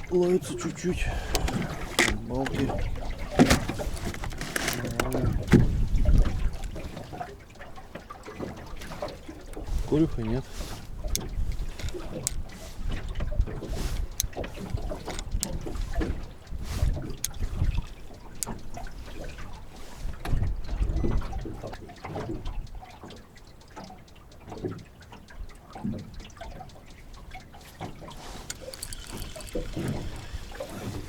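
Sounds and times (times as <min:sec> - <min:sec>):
light clicks: 0:00.0 - 0:31.0
water lapping and sloshing: 0:00.0 - 0:31.0.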